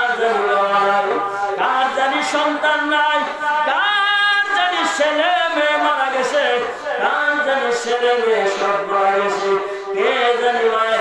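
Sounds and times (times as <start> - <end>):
man chanting through microphone: 0.0 - 11.0.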